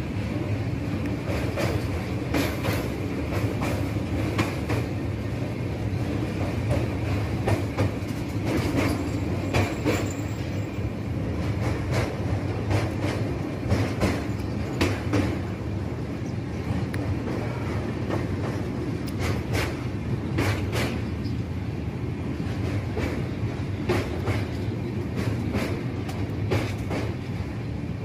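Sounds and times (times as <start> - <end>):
train rumbling on bridge: 0.0 - 28.0
wheels clacking over rail joints: 1.1 - 5.0, 6.1 - 15.6, 16.7 - 21.2, 22.5 - 27.4.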